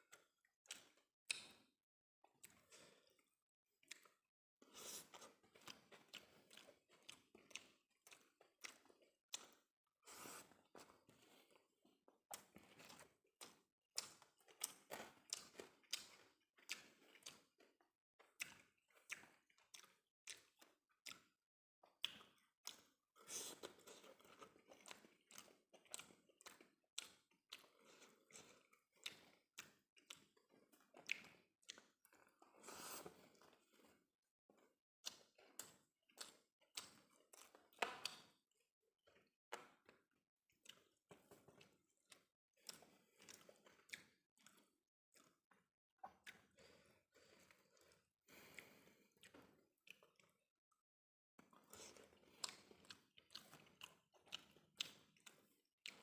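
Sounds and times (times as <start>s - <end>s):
person chewing with wet smacks: 0.0s - 56.0s.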